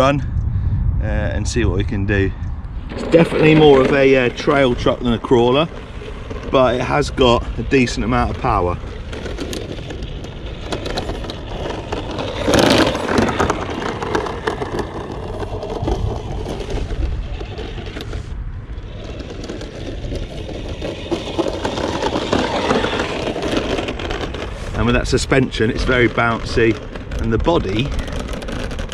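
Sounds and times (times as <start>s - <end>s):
wind buffeting microphone: 0.0s - 28.9s
plastic body rattling: 2.9s - 28.9s
electric toy truck motor: 3.1s - 28.9s.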